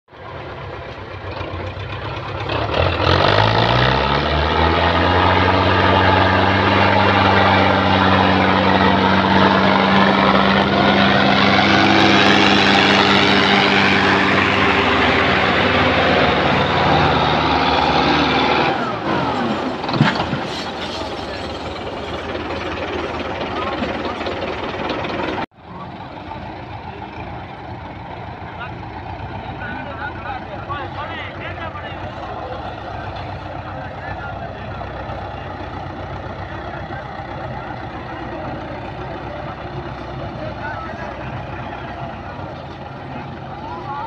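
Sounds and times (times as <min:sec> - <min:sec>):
tractor diesel engine revving: 0:00.1 - 0:44.0.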